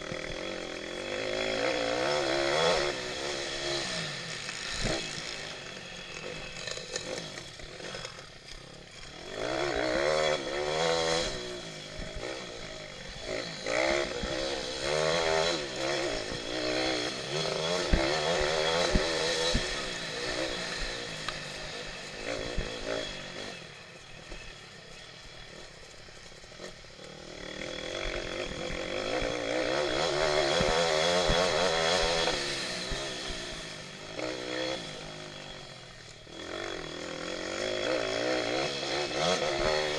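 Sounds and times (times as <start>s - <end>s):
pit bike engine racing: 0.0s - 39.9s.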